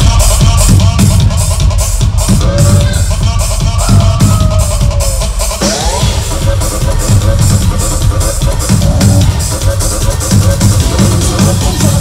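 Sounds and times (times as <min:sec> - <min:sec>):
electronic dance music: 0:00.0 - 0:12.0
heavy pulsing bass: 0:00.0 - 0:12.0.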